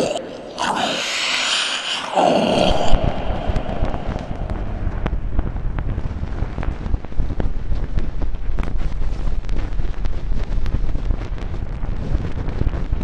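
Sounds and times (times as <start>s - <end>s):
rush of noise: 0.0s - 11.2s
low rumble: 0.0s - 13.0s
dense crackling with pops: 2.5s - 13.0s.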